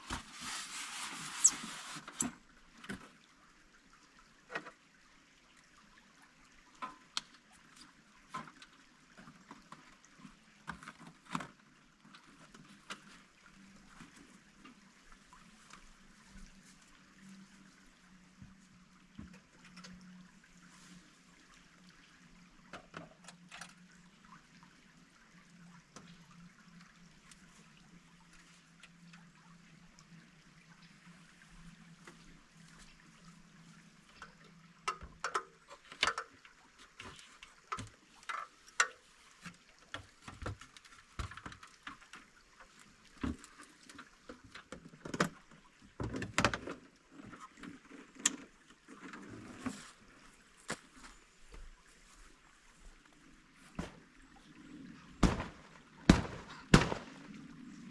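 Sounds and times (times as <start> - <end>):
stream running: 0.0 - 57.9.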